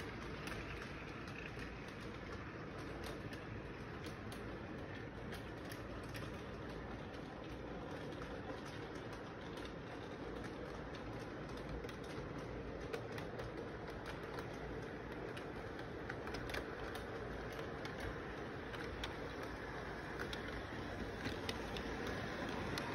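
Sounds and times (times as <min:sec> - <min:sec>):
model train rolling hum: 0:00.0 - 0:22.9
wheels clicking over rail joints: 0:00.0 - 0:22.9.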